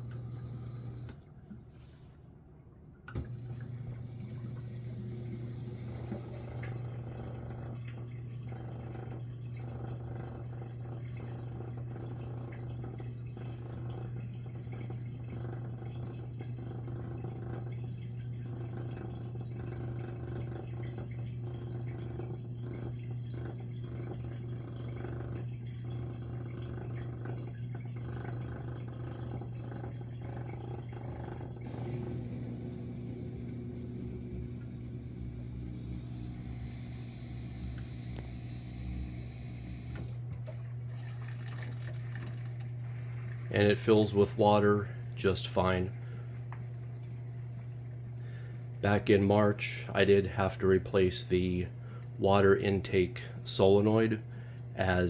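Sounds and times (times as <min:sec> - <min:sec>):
dishwasher motor hum: 0:00.0 - 0:55.0
water moving inside dishwasher: 0:03.1 - 0:50.5.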